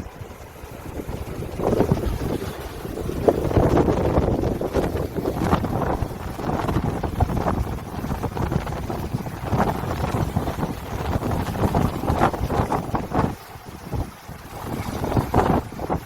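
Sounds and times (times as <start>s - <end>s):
wind gusts buffeting microphone: 0.0s - 16.0s.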